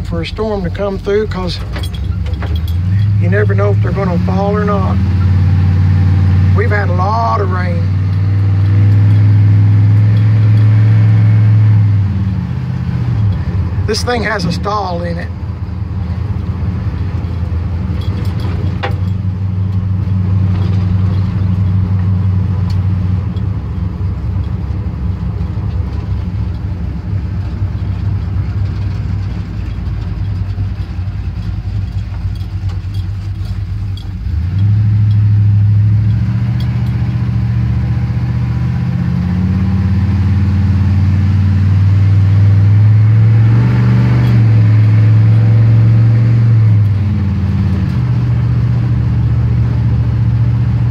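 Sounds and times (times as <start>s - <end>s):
pickup truck engine accelerating: 0.0s - 50.9s.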